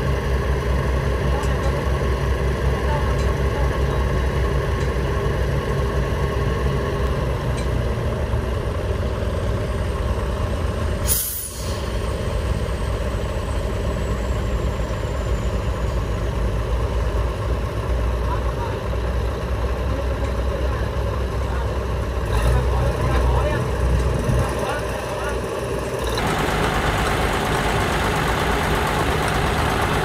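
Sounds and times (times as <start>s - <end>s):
heavy diesel machinery running: 0.0s - 30.0s.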